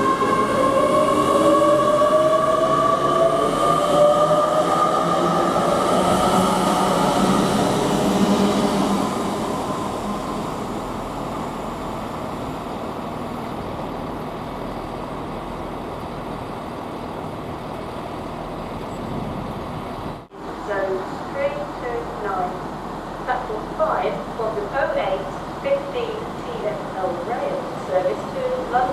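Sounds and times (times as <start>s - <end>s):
train rumbling past: 0.0s - 28.9s.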